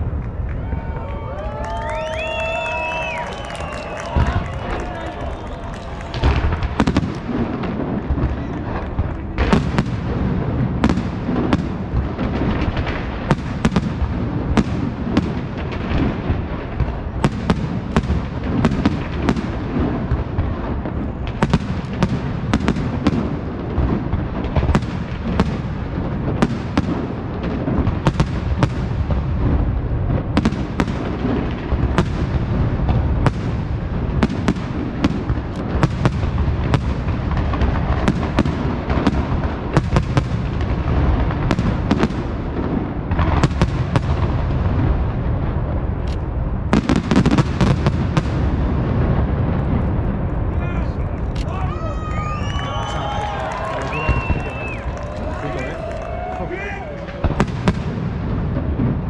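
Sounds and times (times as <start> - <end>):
low rumble of detonations: 0.0 - 59.0.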